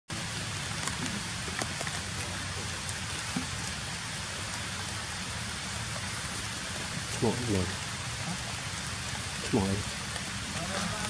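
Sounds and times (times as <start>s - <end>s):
steady hiss: 0.1s - 11.0s.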